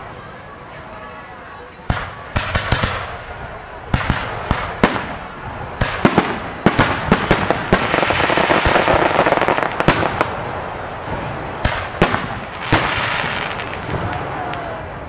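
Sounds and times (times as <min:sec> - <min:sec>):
fireworks bursting: 0:01.8 - 0:15.0.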